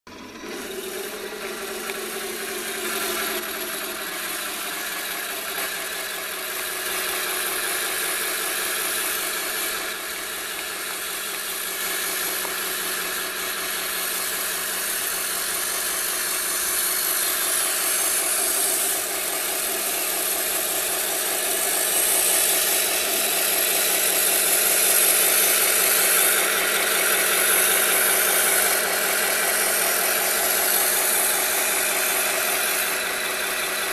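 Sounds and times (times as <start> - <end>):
model tank engine sound: 0.1 - 33.9.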